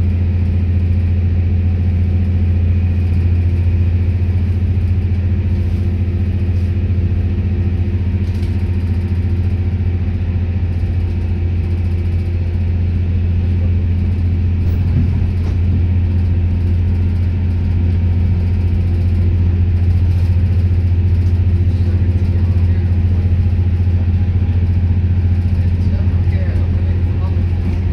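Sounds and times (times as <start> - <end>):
diesel train engine droning: 0.0 - 27.9.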